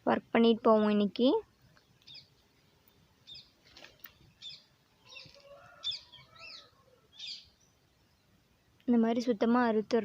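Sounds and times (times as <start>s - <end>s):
small birds chirping: 0.4s - 10.0s.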